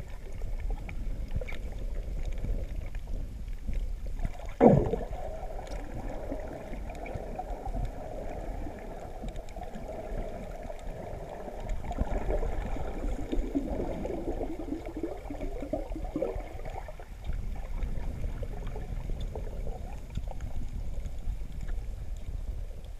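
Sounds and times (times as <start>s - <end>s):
underwater rumble with gurgling bubbles: 0.0s - 22.9s.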